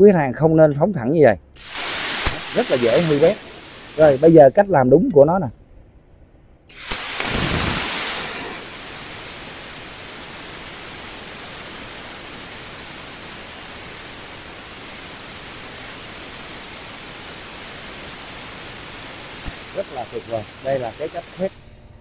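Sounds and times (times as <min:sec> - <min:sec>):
plasma cutter torch hissing: 0:01.6 - 0:04.8, 0:06.7 - 0:21.9.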